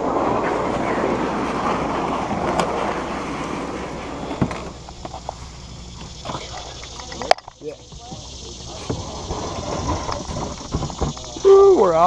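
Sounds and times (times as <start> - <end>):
canoe hull scraping on gravel: 0.0 - 12.0.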